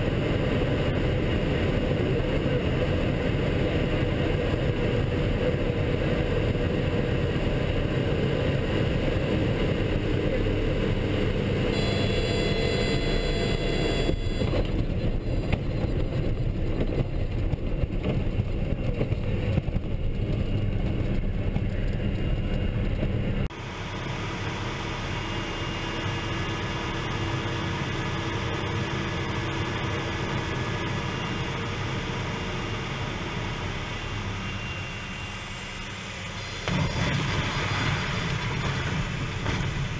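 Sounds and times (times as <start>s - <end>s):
high engine whine: 0.0s - 39.9s
turboprop engine drone: 0.0s - 39.9s.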